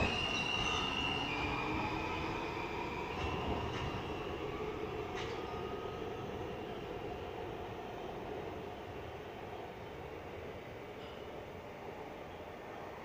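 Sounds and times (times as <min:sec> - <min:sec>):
train cars rumbling: 0:00.0 - 0:11.7.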